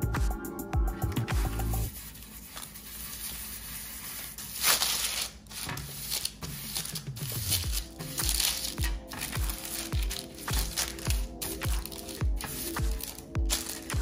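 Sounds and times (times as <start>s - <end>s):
parchment paper crinkling: 1.9s - 14.0s.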